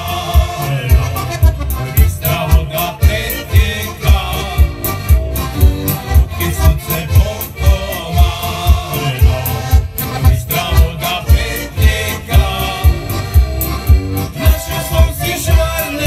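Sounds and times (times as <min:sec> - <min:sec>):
accordion bass thumps: 0:00.0 - 0:16.0
accordion folk tune over loudspeakers: 0:00.0 - 0:16.0.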